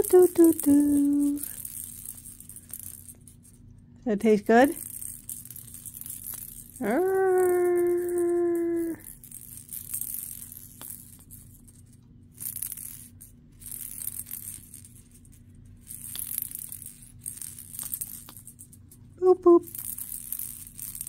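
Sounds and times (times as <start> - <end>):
plastic toy rattling: 0.0 - 3.6, 4.2 - 21.0.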